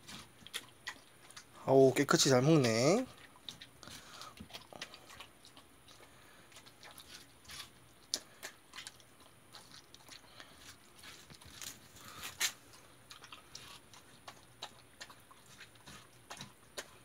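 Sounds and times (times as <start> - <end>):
dog chewing watermelon rind: 0.0 - 17.0.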